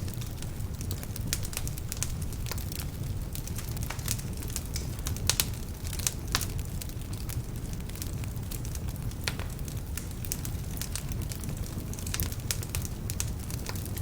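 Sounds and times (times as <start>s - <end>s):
low rumble of flame: 0.0s - 14.0s
wood fire crackling and popping: 0.0s - 14.0s.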